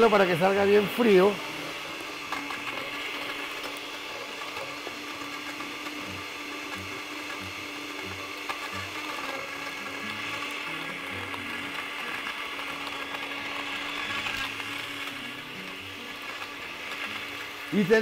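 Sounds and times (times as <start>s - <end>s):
blender running: 0.0s - 18.0s
ice knocking in blender: 0.0s - 18.0s.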